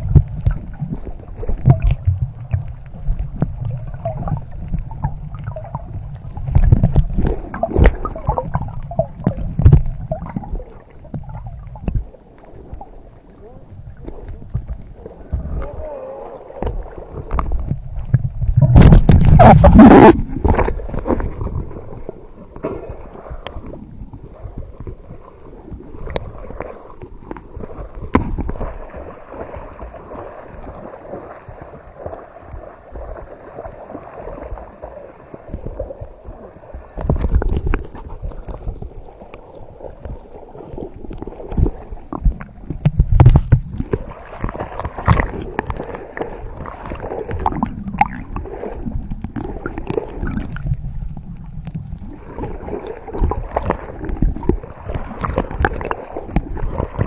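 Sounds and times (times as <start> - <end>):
seawater sloshing and splashing: 0.0 - 57.0.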